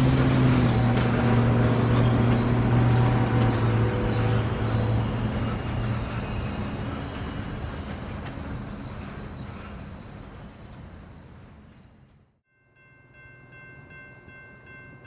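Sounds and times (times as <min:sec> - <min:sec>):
wheels on rails: 0:00.0 - 0:12.3
train engine drone: 0:00.0 - 0:15.0.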